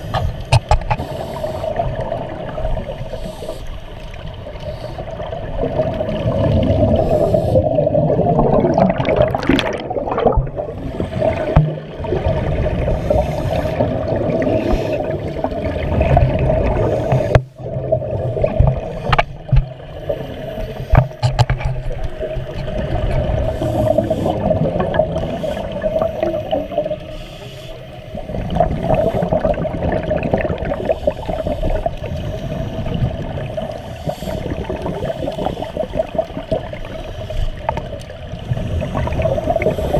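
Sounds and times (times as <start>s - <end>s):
underwater regulator bubbles rumbling: 0.0s - 27.1s, 28.1s - 39.9s.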